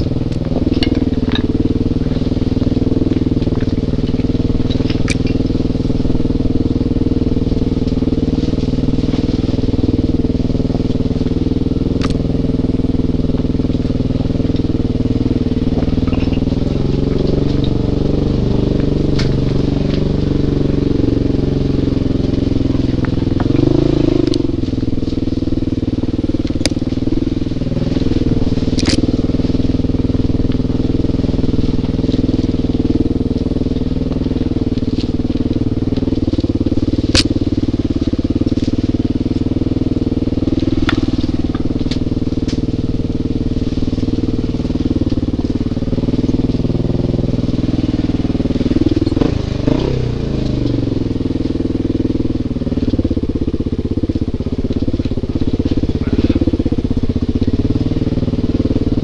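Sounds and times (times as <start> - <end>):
clicks and knocks from rough ground: 0.0 - 20.4, 21.6 - 59.0
dirt bike engine running: 0.0 - 59.0.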